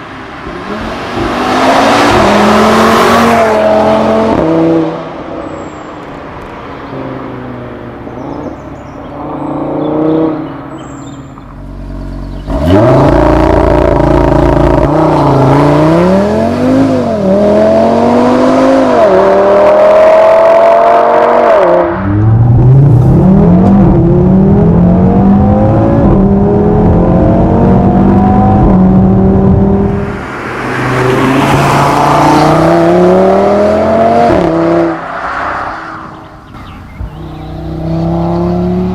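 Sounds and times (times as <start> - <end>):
car engine revving: 0.0 - 5.3, 6.9 - 38.9.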